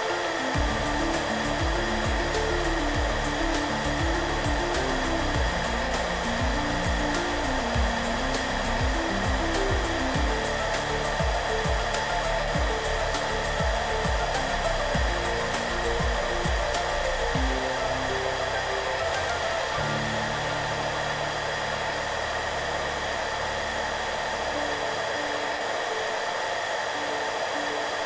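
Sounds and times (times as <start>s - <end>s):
hair dryer blowing: 0.0s - 28.0s
soft melodic background music: 0.0s - 28.0s.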